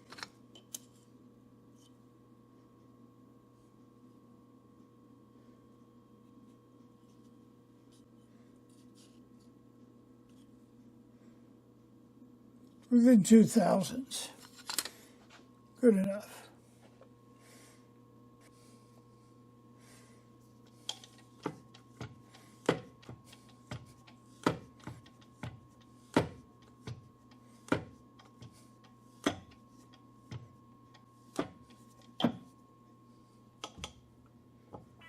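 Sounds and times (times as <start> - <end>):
faint machine hum: 0.0 - 35.0.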